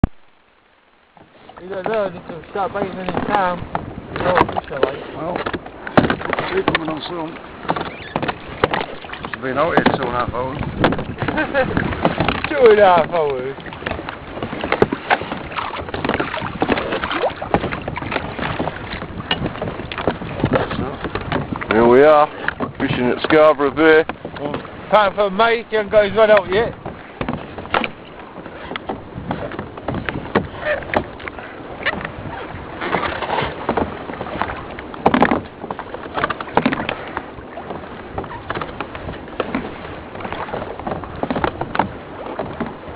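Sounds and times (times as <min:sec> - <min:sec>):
water splashing against kayak hull: 0:00.0 - 0:42.9
wind buffeting microphone: 0:01.2 - 0:42.9.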